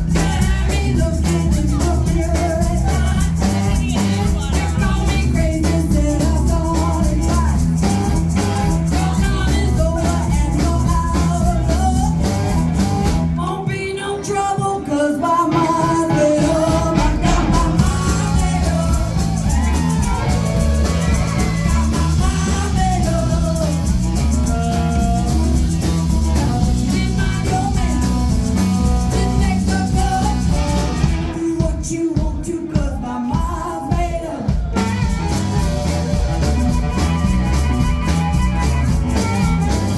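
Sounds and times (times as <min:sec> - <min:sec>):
guitar: 0:00.0 - 0:39.9
person singing: 0:00.0 - 0:39.9
rock and roll band playing: 0:00.0 - 0:39.9.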